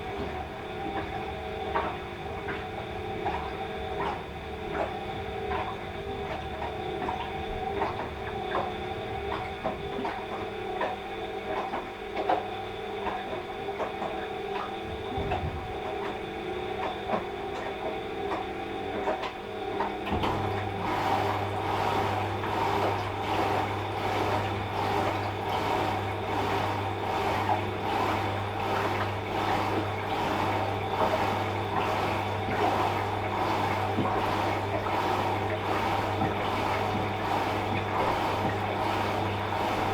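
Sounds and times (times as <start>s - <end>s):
washing machine hum: 0.0s - 39.9s.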